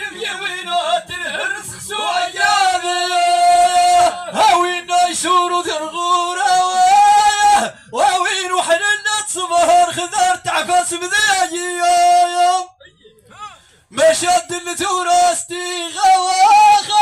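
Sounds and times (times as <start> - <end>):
man chanting: 0.0 - 12.8, 13.4 - 17.0.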